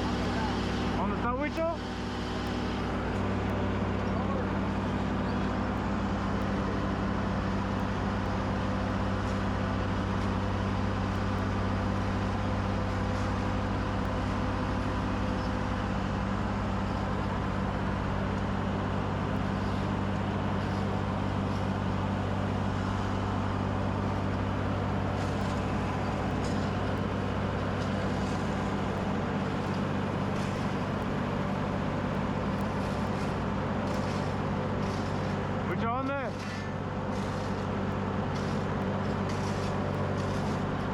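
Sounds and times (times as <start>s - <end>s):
skid steer engine droning: 0.0s - 40.9s.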